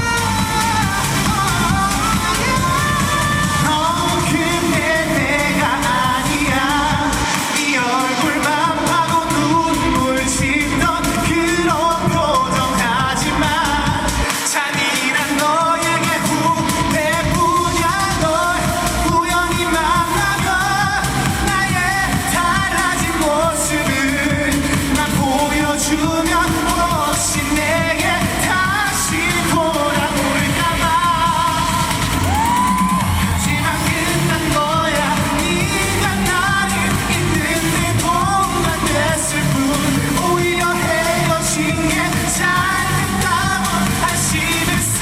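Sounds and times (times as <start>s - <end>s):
backing track music: 0.0s - 45.0s
man singing: 0.0s - 45.0s.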